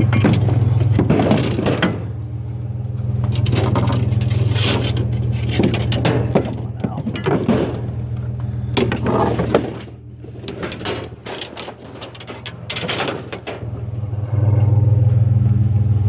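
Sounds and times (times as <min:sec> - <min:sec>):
rushing rattling noises: 0:00.0 - 0:15.4
truck engine humming: 0:00.0 - 0:16.0.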